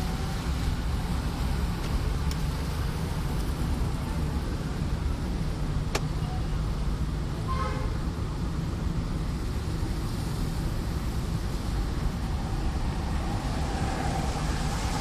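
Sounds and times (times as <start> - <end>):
car engine rumble: 0.0 - 15.0
tyres on wet road: 0.0 - 15.0.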